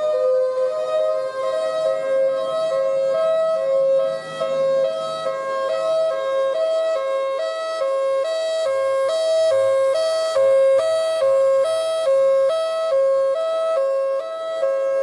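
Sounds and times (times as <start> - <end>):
two-tone hi-lo siren: 0.0 - 15.0.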